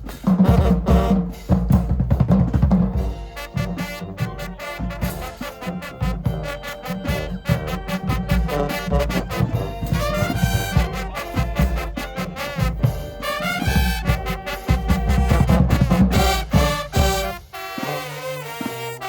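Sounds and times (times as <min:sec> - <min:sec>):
brass horns playing: 0:00.0 - 0:19.0
marching drumline: 0:00.0 - 0:19.0.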